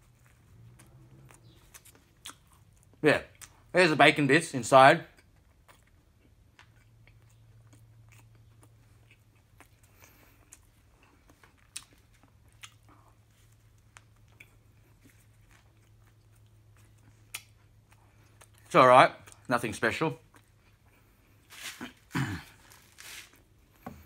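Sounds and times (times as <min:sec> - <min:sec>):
person chewing: 0:00.0 - 0:03.7, 0:05.1 - 0:19.5, 0:20.2 - 0:23.7.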